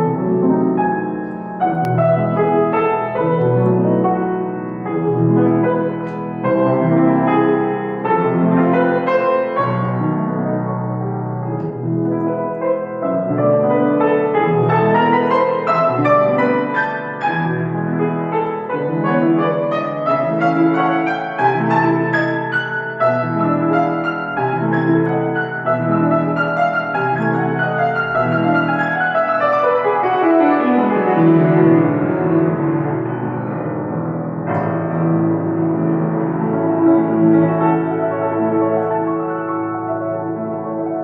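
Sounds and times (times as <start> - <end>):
grand piano playing: 0.0 - 41.0.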